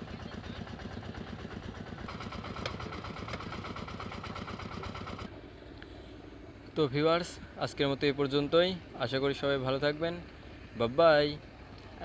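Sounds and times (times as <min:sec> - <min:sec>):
motorboat engine chugging: 0:00.0 - 0:12.0.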